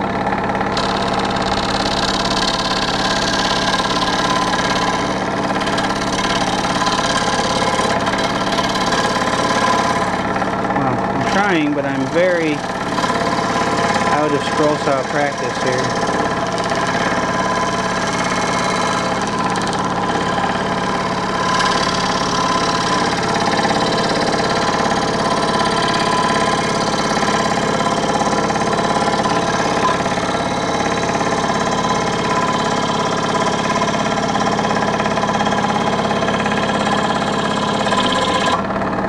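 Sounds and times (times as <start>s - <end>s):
scroll saw cutting wood: 0.0s - 39.0s.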